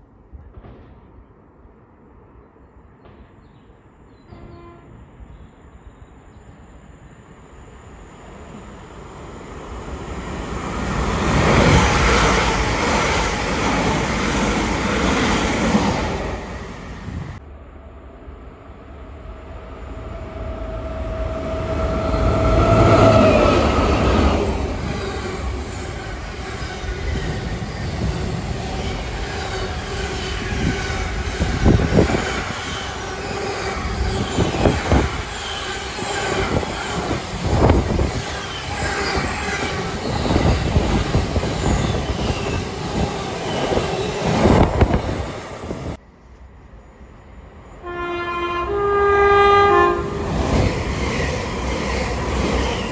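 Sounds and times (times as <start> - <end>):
train rumble passing: 7.3 - 46.0, 48.7 - 52.9.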